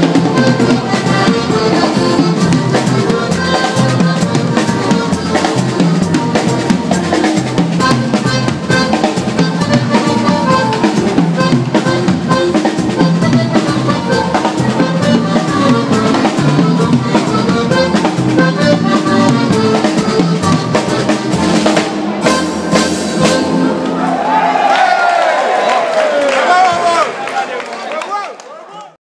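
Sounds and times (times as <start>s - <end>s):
drum kit beat on cymbals: 0.0s - 23.9s
button accordion: 0.0s - 24.0s
bass guitar: 0.0s - 24.7s.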